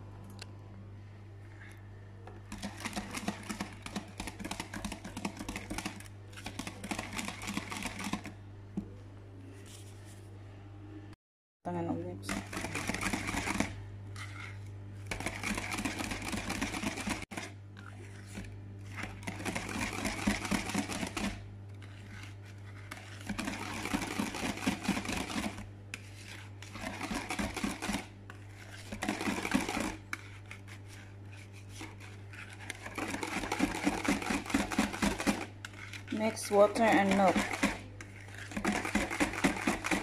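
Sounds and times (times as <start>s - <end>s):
steady low hum: 0.0s - 40.0s
wire whisk scraping plastic bowl: 2.5s - 8.3s, 12.2s - 40.0s.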